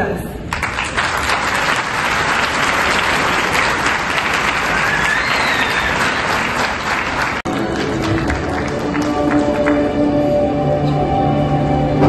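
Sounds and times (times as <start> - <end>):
audience applauding: 0.5 - 10.2.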